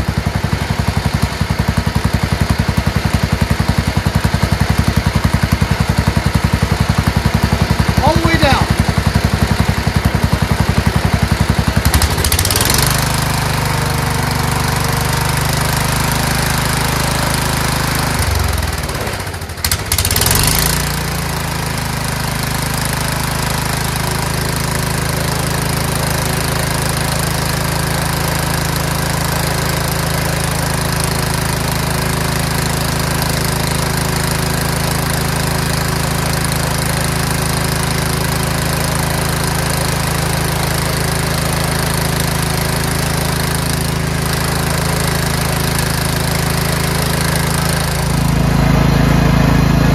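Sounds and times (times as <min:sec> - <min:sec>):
lawn tractor engine running: 0:00.0 - 0:49.9.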